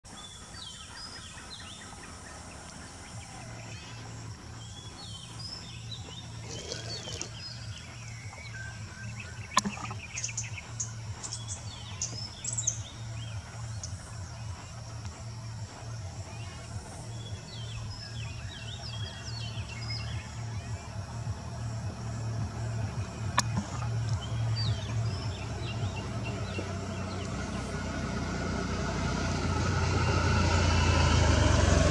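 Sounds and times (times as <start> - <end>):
wild birds chirping: 0.0 - 31.9
steady low hum: 0.1 - 31.9.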